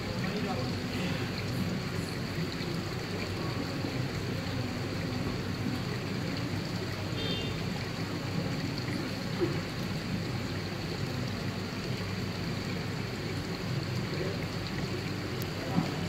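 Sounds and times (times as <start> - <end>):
aquarium water splashing: 0.0 - 16.0.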